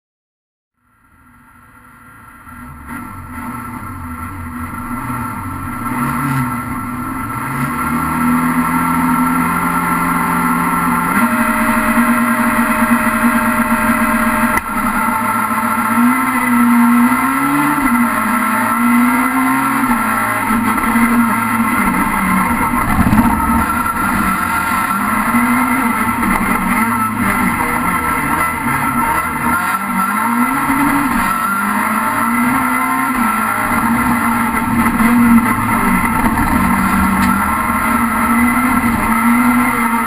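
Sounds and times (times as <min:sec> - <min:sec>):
race car engine revving: 0:02.4 - 0:40.0.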